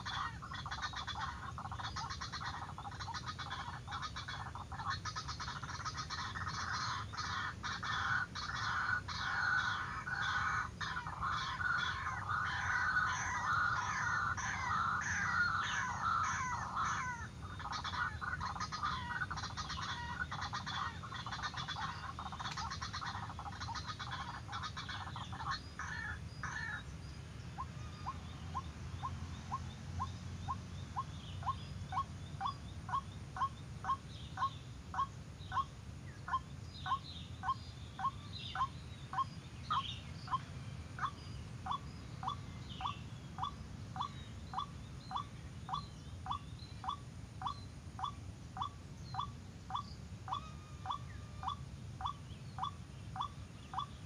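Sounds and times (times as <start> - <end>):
bird chattering croaking calls: 0.0 - 54.0.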